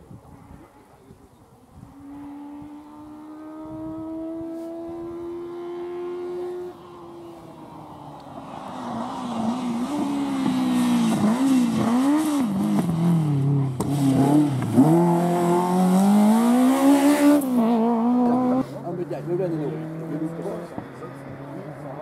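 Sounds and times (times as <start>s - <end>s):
rally car engine revving: 1.8s - 22.0s.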